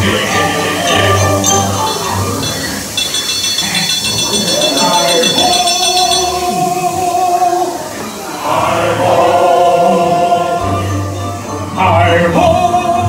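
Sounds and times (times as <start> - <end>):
choir singing long notes: 0.0 - 13.0.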